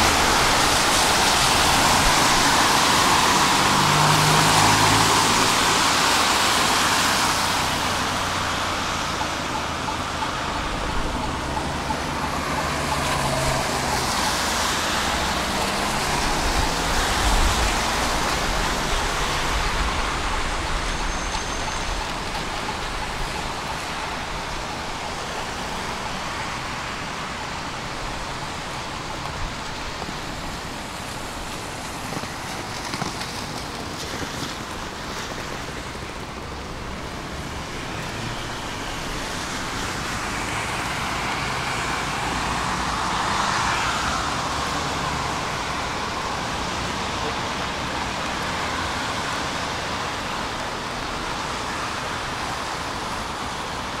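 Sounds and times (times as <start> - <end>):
tyres hissing on wet asphalt: 0.0 - 54.0.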